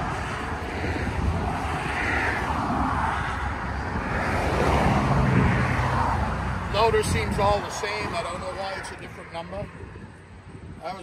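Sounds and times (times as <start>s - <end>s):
car tyre and engine noise: 0.0s - 11.0s.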